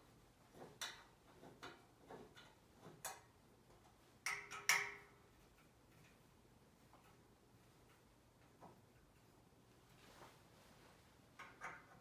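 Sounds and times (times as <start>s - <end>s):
light clicks and taps on metal: 0.5s - 9.9s, 11.3s - 12.0s.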